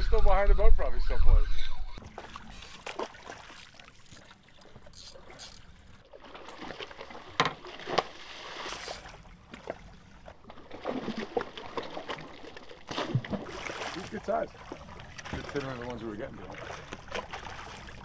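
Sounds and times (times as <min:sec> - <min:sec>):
water lapping against hull: 0:01.1 - 0:18.0.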